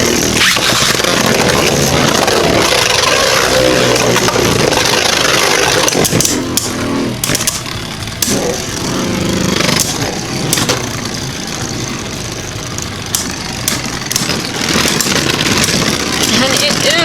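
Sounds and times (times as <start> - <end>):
spinning tops clacking together: 0.0 - 17.0
spinning tops whirring and scraping: 0.0 - 17.0.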